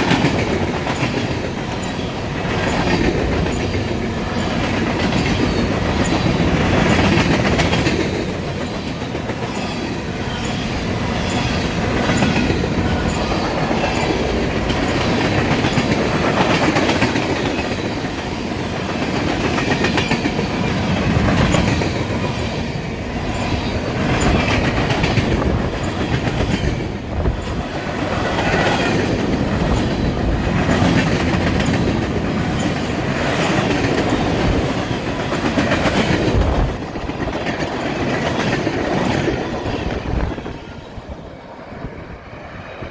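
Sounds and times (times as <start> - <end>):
wheels clicking over rail joints: 0.0 - 40.1.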